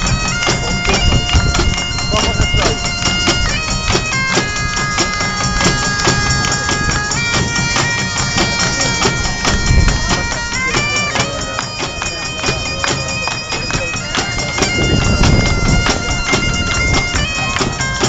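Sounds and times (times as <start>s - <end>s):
bagpipes playing melody: 0.0s - 18.0s
bass drums beating: 0.0s - 18.0s.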